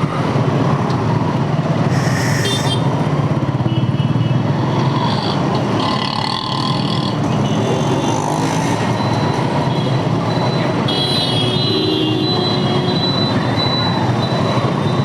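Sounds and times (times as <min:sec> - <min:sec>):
city traffic engines: 0:00.0 - 0:15.0.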